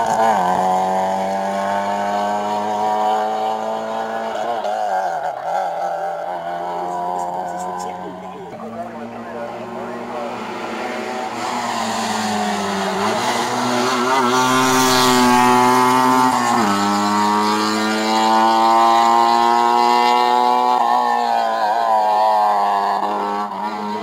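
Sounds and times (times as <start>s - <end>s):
rally car engine accelerating: 0.0s - 24.0s.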